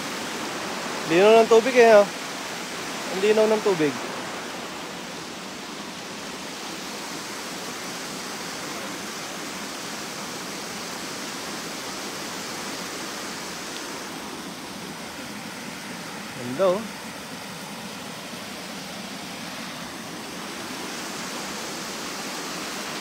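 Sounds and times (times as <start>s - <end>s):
river water rushing over stones: 0.0s - 23.0s.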